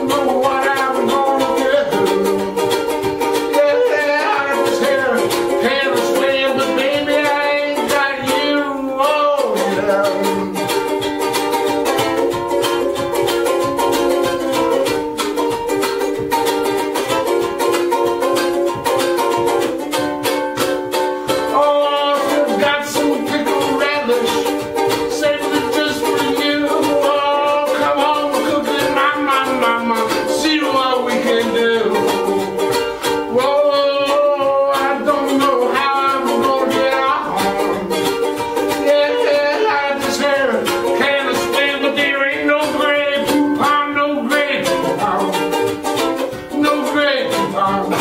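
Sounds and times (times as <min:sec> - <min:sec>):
man singing: 0:00.0 - 0:15.3, 0:20.9 - 0:48.0
ukulele strumming: 0:00.0 - 0:48.0.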